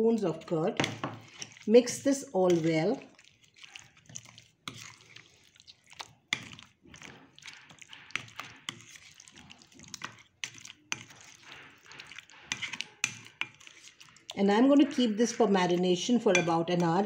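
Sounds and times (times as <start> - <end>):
spatula wet scraping: 0.0 - 17.0.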